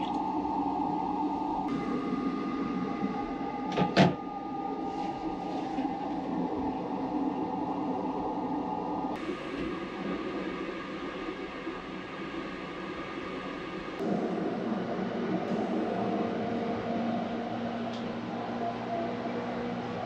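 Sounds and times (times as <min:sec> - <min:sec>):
moving train hum: 0:00.0 - 0:20.0.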